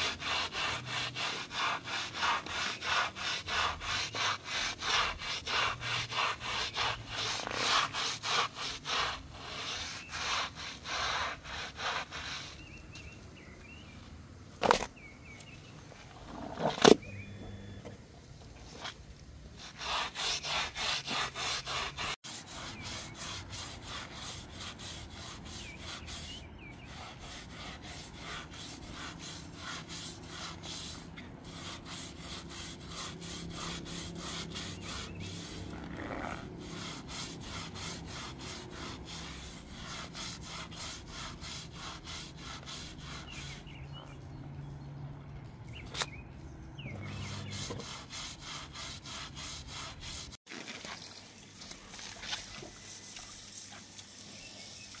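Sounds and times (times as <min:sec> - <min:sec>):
brush scrubbing wet rug: 0:00.0 - 0:12.8, 0:19.6 - 0:43.8, 0:46.9 - 0:55.0.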